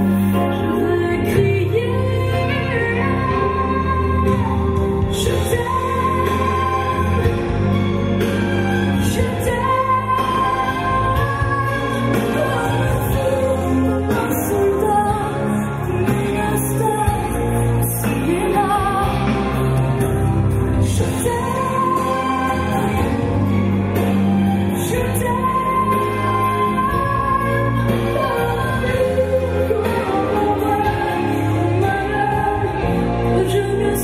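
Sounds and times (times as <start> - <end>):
person singing: 0.0 - 7.9, 8.7 - 34.0
sustained musical backing: 0.0 - 34.0.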